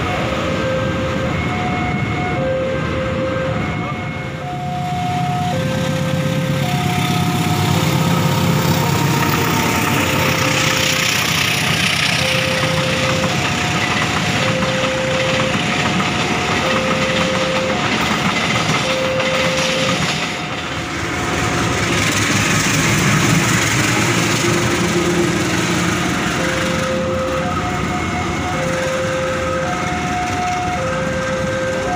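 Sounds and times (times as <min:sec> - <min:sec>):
train rumbling past: 0:00.0 - 0:31.9
two-tone crossing alarm: 0:00.0 - 0:31.9.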